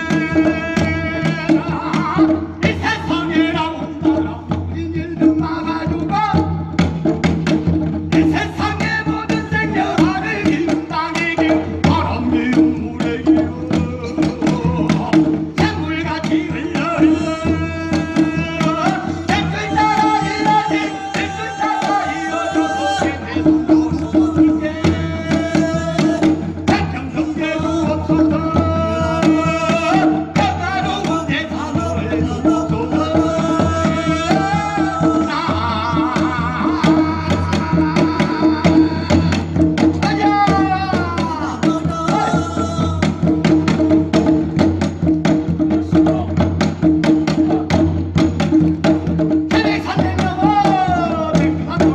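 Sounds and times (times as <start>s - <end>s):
man singing folk melody: 0.0s - 6.6s, 8.1s - 43.1s, 49.5s - 51.9s
hand drum beating: 0.0s - 51.9s.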